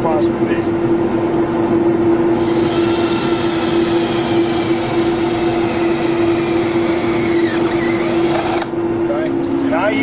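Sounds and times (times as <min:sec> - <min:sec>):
exhaust fan humming with rushing air: 0:00.0 - 0:10.0.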